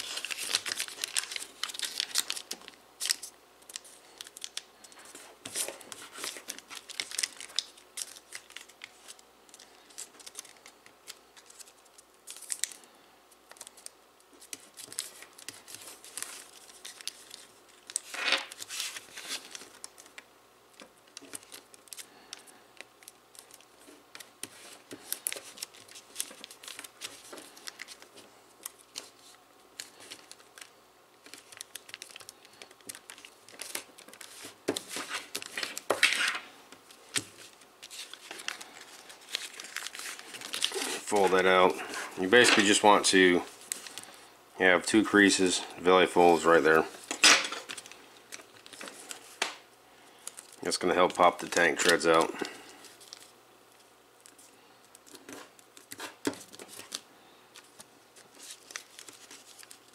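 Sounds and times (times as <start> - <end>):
foil crinkling: 0.0 - 44.3, 44.9 - 59.9.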